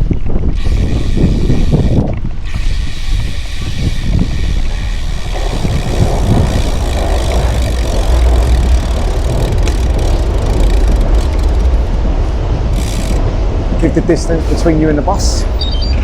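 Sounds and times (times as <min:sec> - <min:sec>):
motor traffic: 0:00.0 - 0:16.0
wind rumble on microphone: 0:00.0 - 0:16.0.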